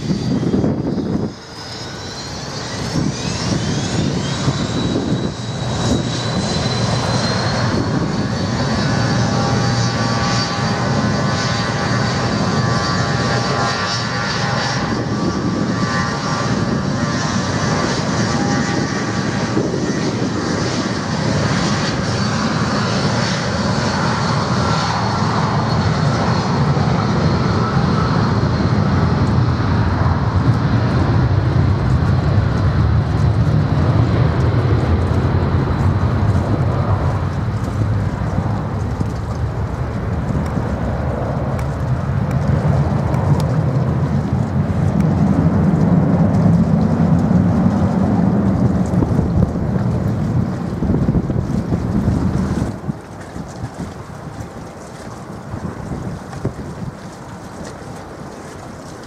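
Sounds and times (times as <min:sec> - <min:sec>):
jet engines spooling up: 0:00.0 - 0:53.0.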